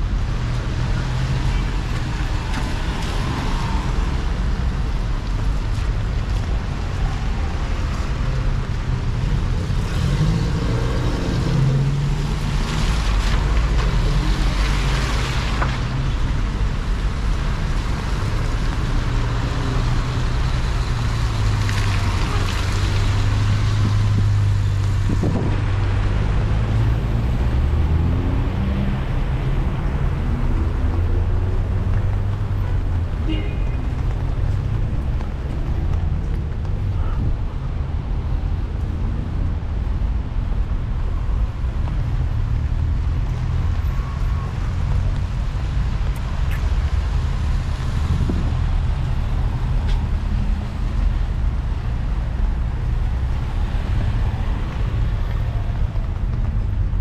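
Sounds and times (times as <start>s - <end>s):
vehicles rushing by: 0.0s - 57.0s.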